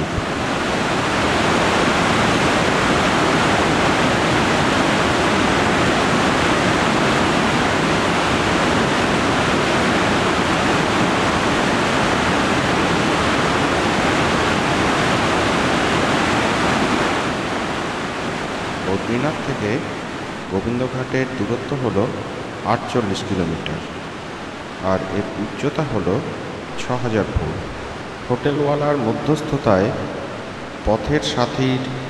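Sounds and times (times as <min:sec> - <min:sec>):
river rushing over rapids: 0:00.0 - 0:32.0.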